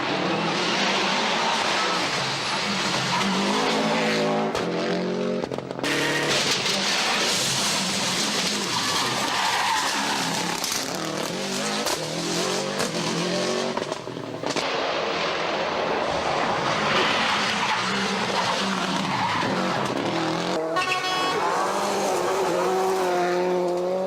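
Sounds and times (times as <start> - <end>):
rally car engine revving hard: 0.0 - 9.2, 9.8 - 14.6, 16.9 - 24.0.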